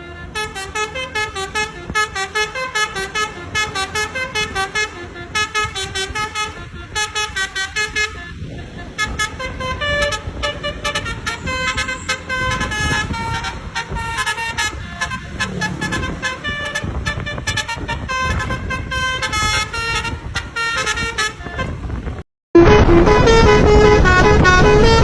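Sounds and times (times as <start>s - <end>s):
low rumble of vehicle noise: 0.0s - 25.0s
multi-tone bus horn tune: 0.0s - 25.0s.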